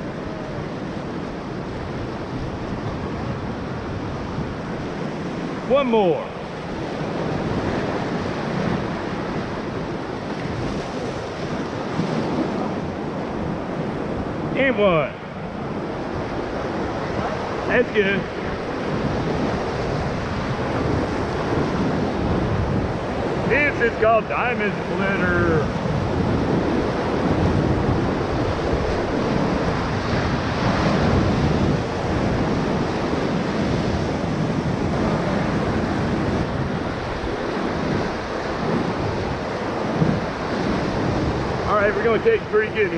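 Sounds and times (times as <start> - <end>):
whitewater rapids rushing: 0.0 - 42.9
wind buffeting microphone: 0.0 - 42.9.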